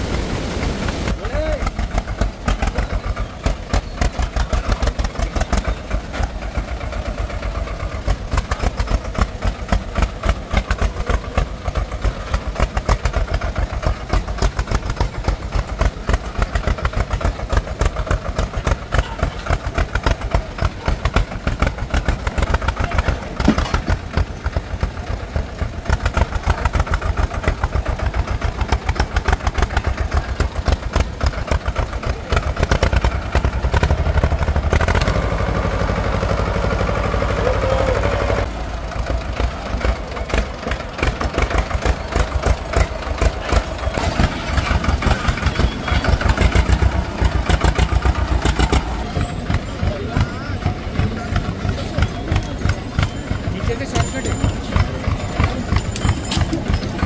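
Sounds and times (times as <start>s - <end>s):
tractor diesel engine chugging: 0.0s - 57.0s.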